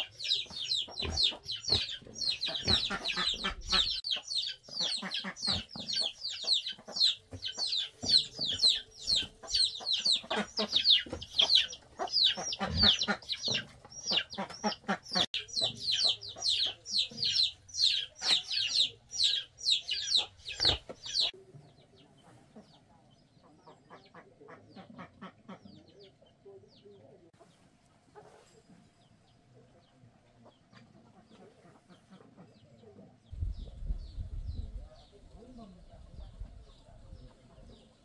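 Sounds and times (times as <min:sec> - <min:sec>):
chickens peeping: 0:00.0 - 0:38.0.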